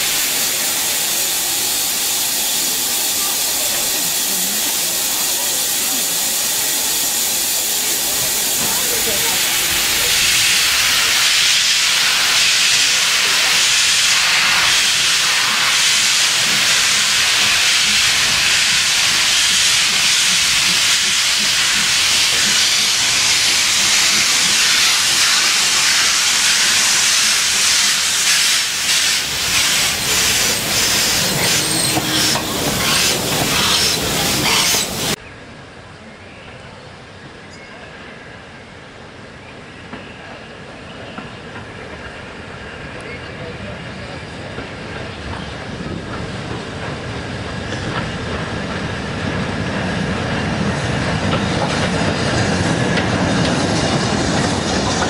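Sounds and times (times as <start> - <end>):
steam locomotive hissing: 0.0 - 35.2, 39.9 - 55.0.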